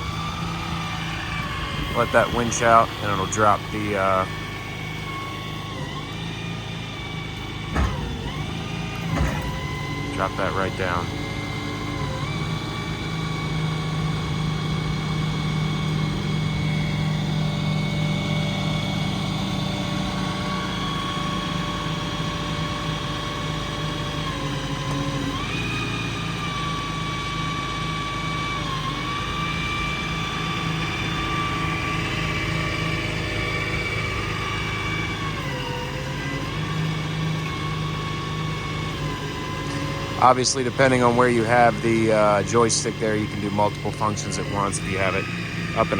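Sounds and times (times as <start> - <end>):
crane hydraulics whining: 0.0 - 45.9
diesel engine humming: 0.0 - 45.9.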